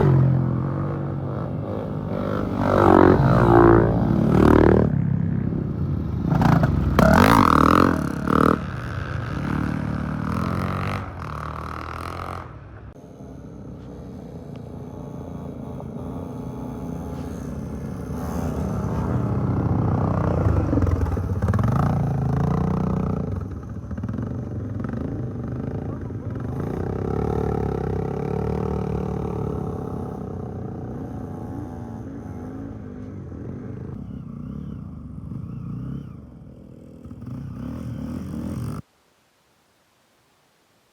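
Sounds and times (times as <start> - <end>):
motorcycles revving past: 0.0 - 38.9.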